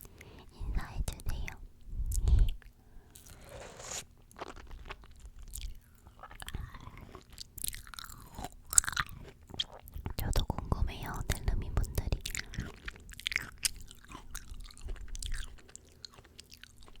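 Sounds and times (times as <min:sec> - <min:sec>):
chewing fruit wet crunching: 0:02.1 - 0:17.0.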